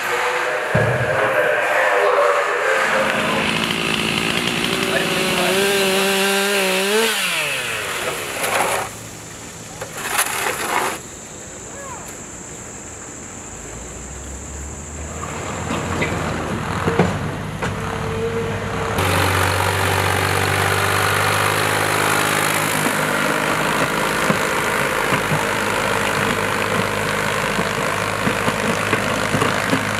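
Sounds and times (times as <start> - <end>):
tractor engine running: 0.7 - 10.8, 15.2 - 29.9.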